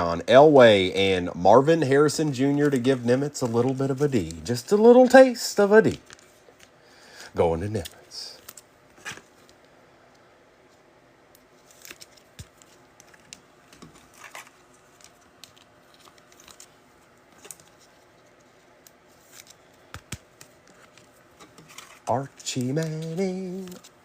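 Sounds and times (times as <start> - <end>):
trading cards clicking and rustling: 1.8 - 6.8, 7.6 - 9.6, 11.4 - 24.0.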